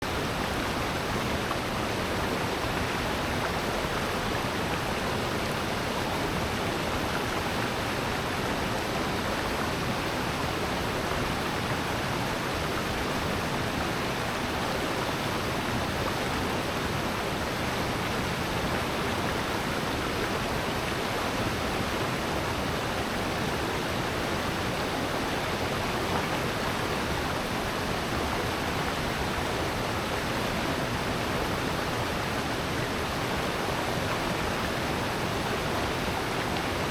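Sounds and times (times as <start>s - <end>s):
stream and waterfalls rushing: 0.0s - 36.9s.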